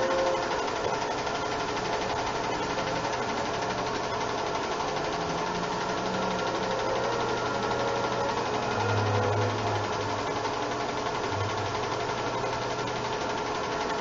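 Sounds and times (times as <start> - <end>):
film projector clatter: 0.0 - 14.0
motor hum: 0.0 - 14.0.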